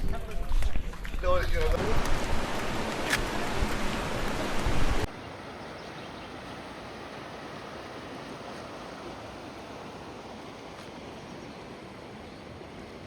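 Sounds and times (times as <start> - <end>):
falling water rushing: 1.7 - 13.0.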